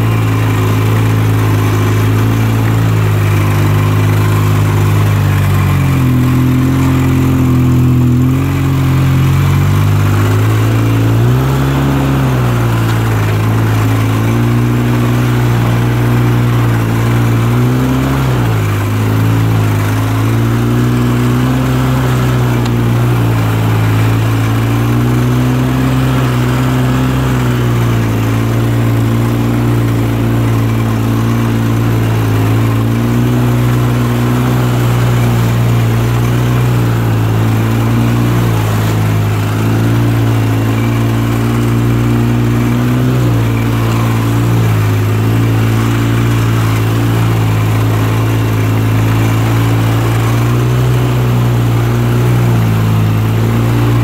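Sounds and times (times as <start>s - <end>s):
atv engine running at low speed: 0.0s - 54.0s.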